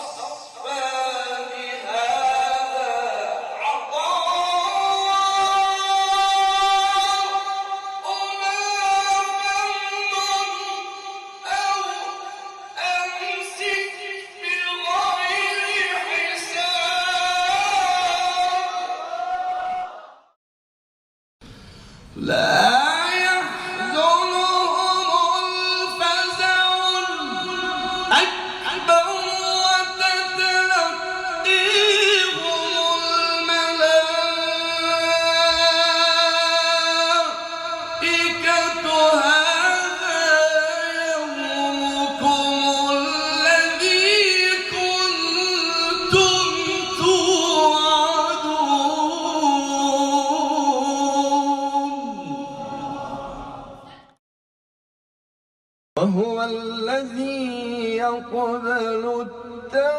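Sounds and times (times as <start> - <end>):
man reciting melodically: 0.0 - 19.8, 22.1 - 53.9, 56.0 - 59.9.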